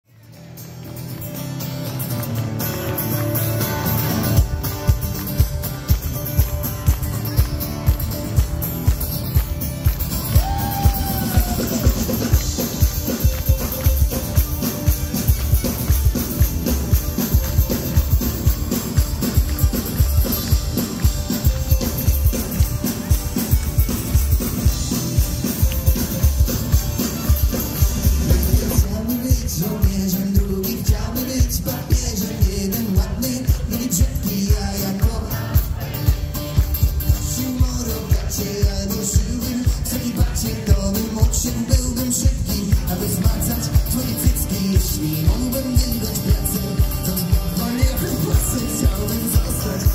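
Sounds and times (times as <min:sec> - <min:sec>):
strummed acoustic guitar: 0:00.1 - 0:49.9
drum kit beat: 0:03.4 - 0:49.9.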